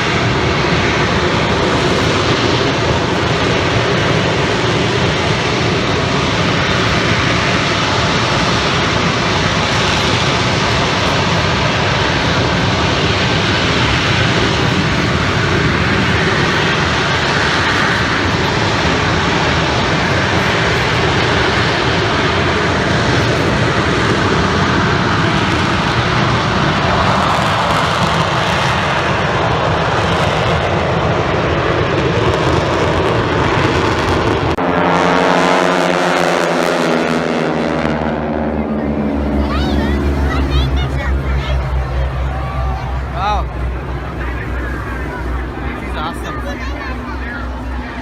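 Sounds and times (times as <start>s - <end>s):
fighter jet engines roaring: 0.0s - 48.0s.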